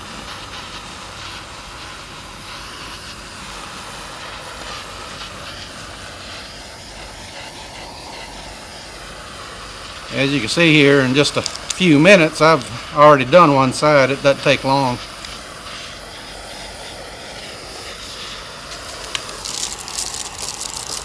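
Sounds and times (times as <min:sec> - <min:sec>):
propane torch hissing: 0:00.0 - 0:21.0.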